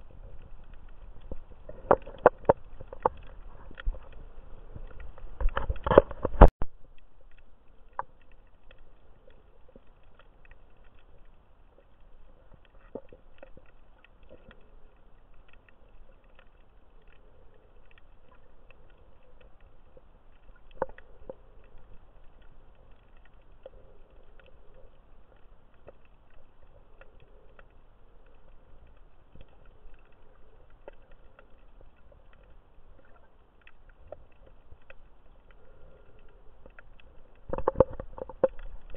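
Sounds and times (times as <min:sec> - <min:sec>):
faint clicks and crackles: 0:00.0 - 0:38.9
low underwater hiss: 0:06.2 - 0:38.9.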